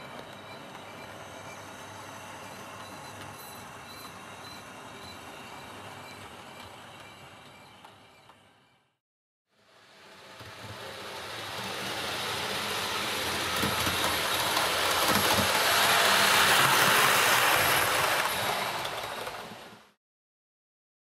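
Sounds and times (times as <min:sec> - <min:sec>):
train running: 0:00.0 - 0:08.8, 0:09.8 - 0:20.0.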